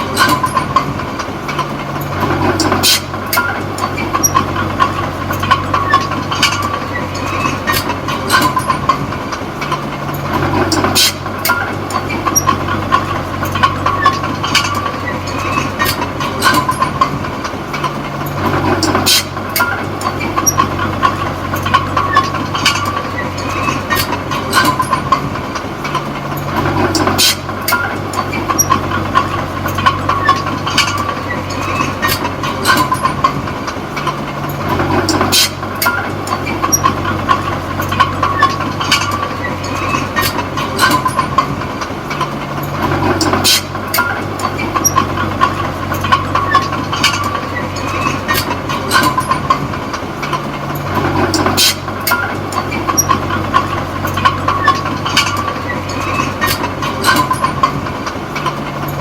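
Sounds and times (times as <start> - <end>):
bulldozer diesel engine running: 0.0 - 59.0
steel tracks clanking: 0.0 - 59.0.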